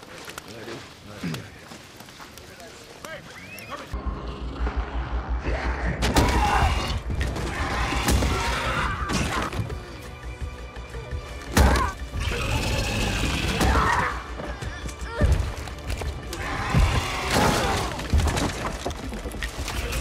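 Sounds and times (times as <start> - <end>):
dramatic music: 4.0 - 20.0.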